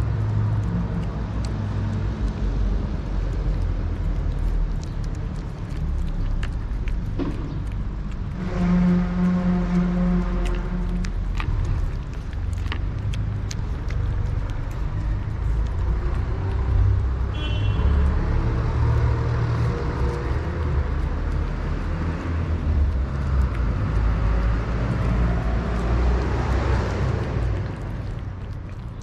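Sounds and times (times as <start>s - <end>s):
cats eating wet food: 0.0s - 29.0s
road traffic rumble: 0.0s - 29.0s
vehicle passing close: 0.0s - 29.0s.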